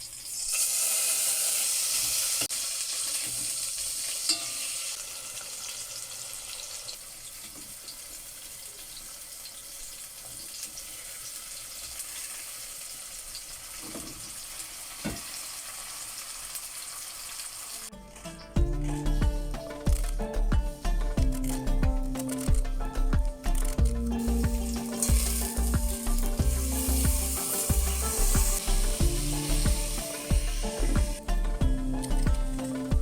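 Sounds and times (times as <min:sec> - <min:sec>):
food sizzling in a frying pan: 0:00.0 - 0:20.0, 0:23.6 - 0:33.0.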